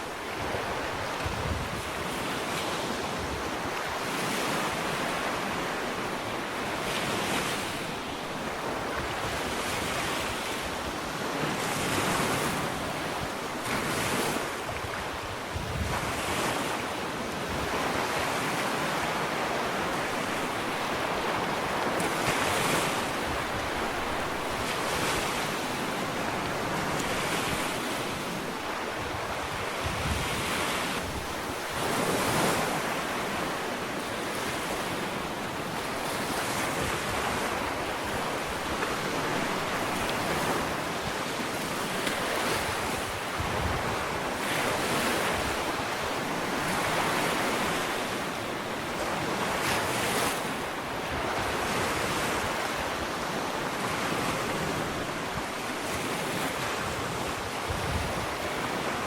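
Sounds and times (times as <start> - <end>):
waves washing onto sandy beach: 0.0 - 59.0
wind on microphone: 0.0 - 59.0.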